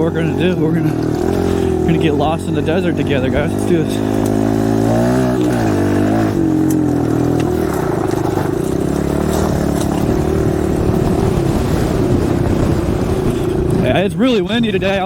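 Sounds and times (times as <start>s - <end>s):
dirt bike engine pulling away: 0.0s - 15.0s.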